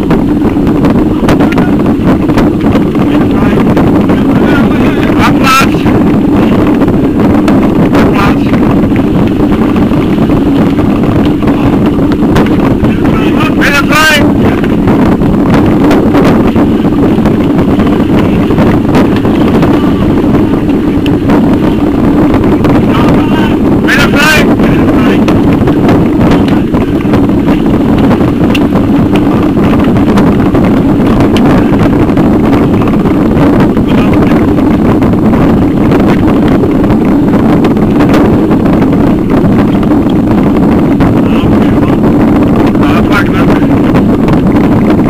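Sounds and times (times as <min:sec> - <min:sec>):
camera rumbling over cobblestones: 0:00.0 - 0:45.0
wind buffeting microphone: 0:00.0 - 0:45.0.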